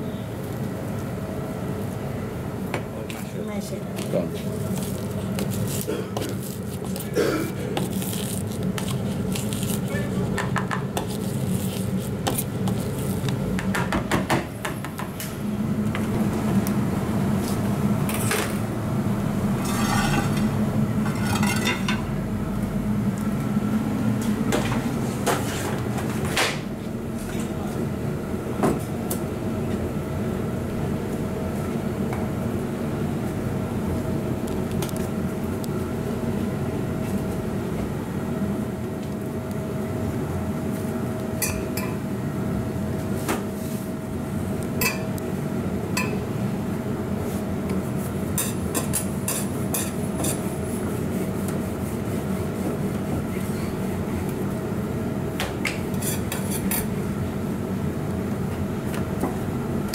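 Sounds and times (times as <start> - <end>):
kitchen equipment humming: 0.0 - 59.9.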